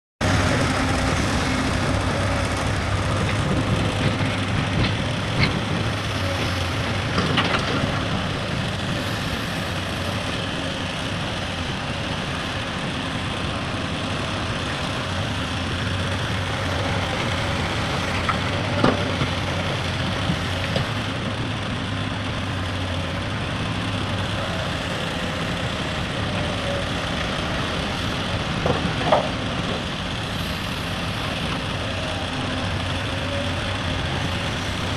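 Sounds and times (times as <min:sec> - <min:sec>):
heavy diesel machinery running: 0:00.2 - 0:34.9.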